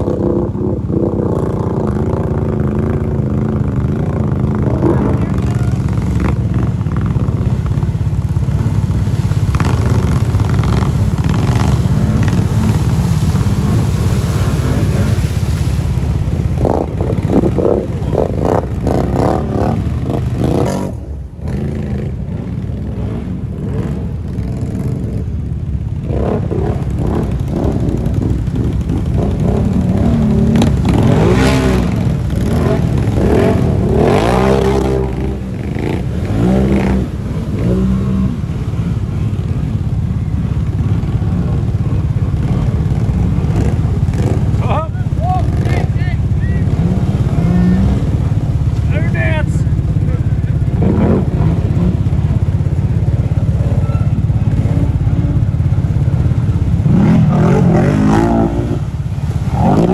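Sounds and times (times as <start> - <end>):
atv engines revving: 0.0 - 59.9
water splashing off wheels: 0.0 - 59.9.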